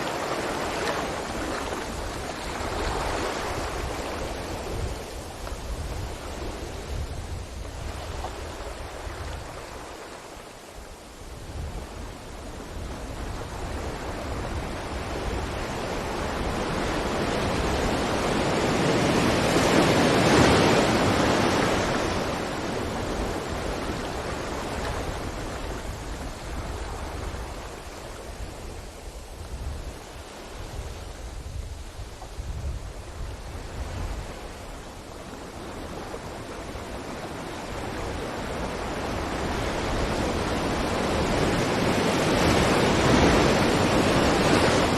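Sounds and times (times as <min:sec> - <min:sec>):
sea waves on a beach: 0:00.0 - 0:44.9.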